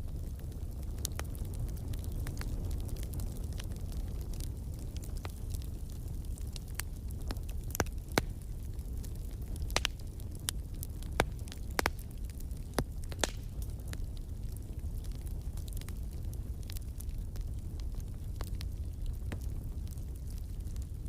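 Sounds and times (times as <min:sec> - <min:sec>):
low rumble of flame: 0:00.0 - 0:21.0
wood fire crackling: 0:00.0 - 0:21.0.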